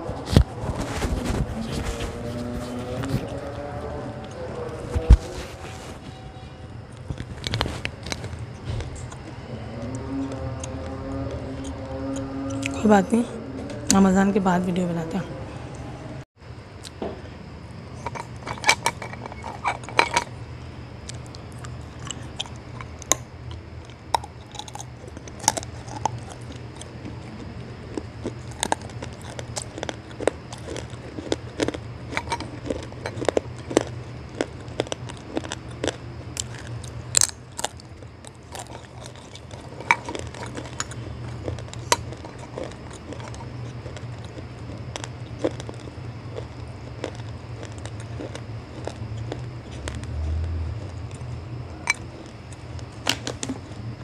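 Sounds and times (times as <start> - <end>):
clay crunching while chewed: 0.0 - 6.2, 6.9 - 12.8, 17.8 - 54.0
steady low hum: 0.0 - 54.0.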